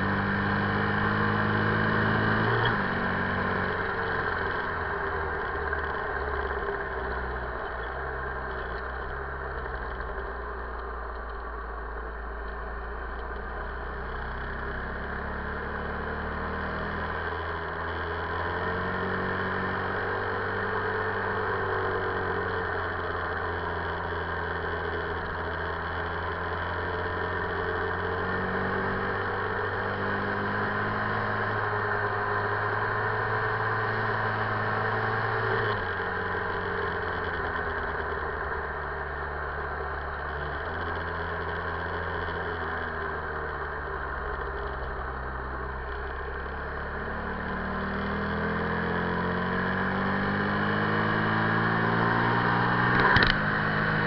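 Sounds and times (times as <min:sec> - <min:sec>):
motorcycle engine revving: 0:00.0 - 0:10.4, 0:13.4 - 0:54.0.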